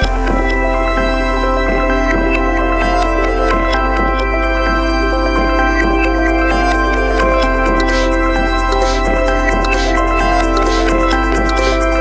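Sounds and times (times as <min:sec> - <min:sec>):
ambient electronic music: 0:00.0 - 0:12.0.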